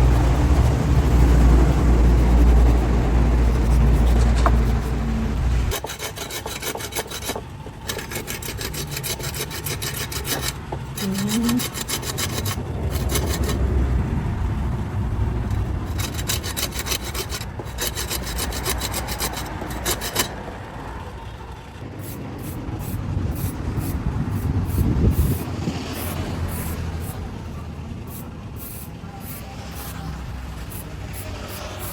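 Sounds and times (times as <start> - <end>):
hand tool scraping strokes: 0.0 - 13.6, 15.5 - 20.4, 22.0 - 27.3, 28.1 - 31.9.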